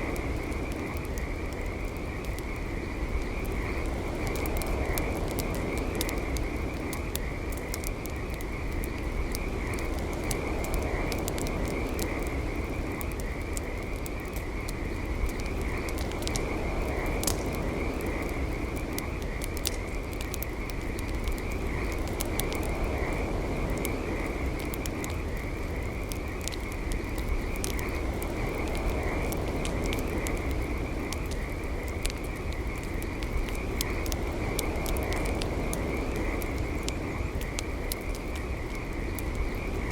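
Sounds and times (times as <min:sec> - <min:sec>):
campfire crackling and popping: 0:00.0 - 0:39.9
frogs trilling: 0:00.0 - 0:39.9.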